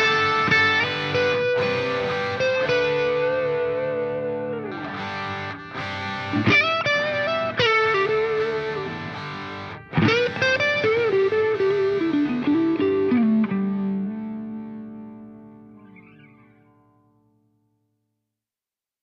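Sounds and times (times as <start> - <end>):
distorted electric guitar melody: 0.0 - 17.4.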